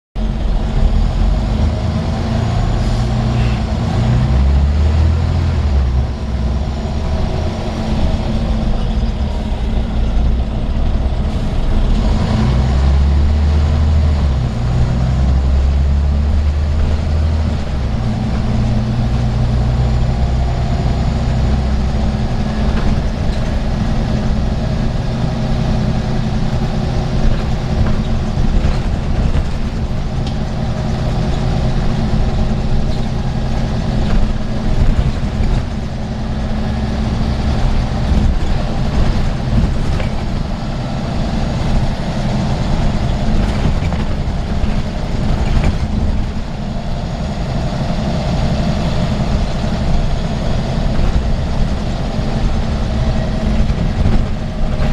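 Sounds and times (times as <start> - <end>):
bus diesel engine running: 0.2 - 54.9
road noise: 0.2 - 54.9.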